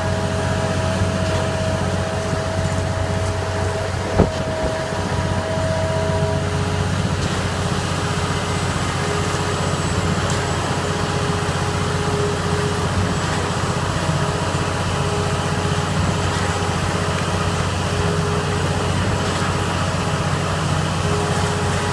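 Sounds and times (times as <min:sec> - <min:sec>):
heavy truck engine running: 0:00.0 - 0:21.9.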